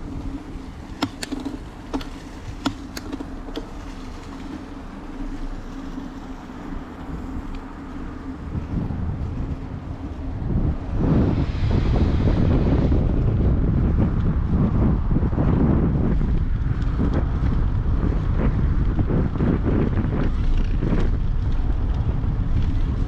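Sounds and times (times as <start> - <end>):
bicycle clicks and rattles: 0.0 - 11.0, 12.9 - 23.0
bicycle ride hum: 0.0 - 23.0
wind buffeting microphone: 0.0 - 23.0.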